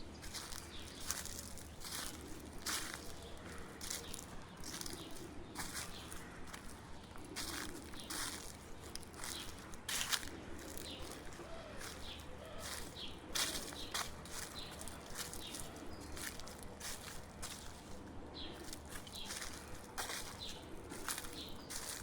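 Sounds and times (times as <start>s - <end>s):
footsteps crunching dry leaves: 0.1s - 22.0s.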